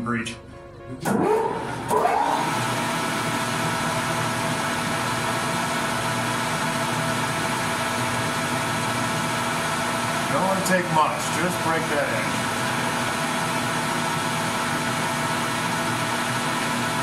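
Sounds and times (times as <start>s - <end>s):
lathe motor whining and humming: 1.0s - 17.0s.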